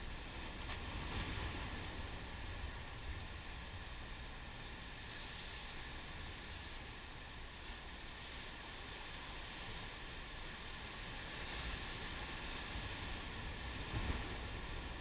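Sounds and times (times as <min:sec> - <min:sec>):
surf washing over rocks: 0:00.0 - 0:15.0
wind rumble on microphone: 0:00.0 - 0:15.0.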